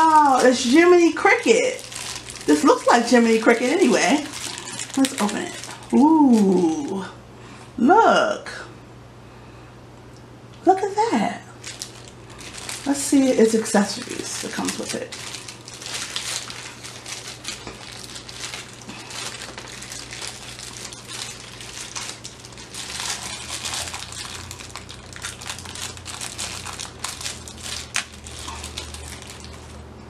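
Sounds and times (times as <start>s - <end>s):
plastic packaging crinkling: 0.0s - 7.0s, 11.5s - 29.9s.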